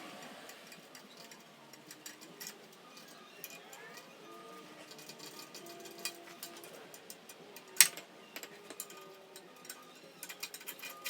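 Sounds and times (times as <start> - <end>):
hand tools clicking and tapping metal: 0.2 - 11.0.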